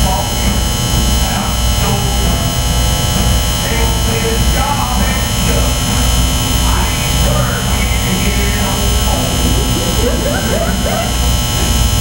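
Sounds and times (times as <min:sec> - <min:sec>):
faint voices murmuring: 0:00.0 - 0:12.0
loud electrical buzz: 0:00.0 - 0:12.0
low pulsing throb: 0:00.0 - 0:12.0.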